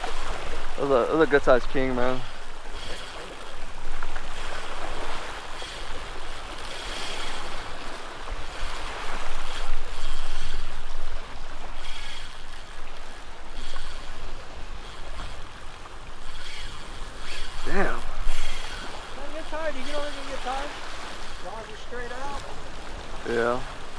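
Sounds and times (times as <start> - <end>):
waves washing against rocks: 0.0 - 23.7.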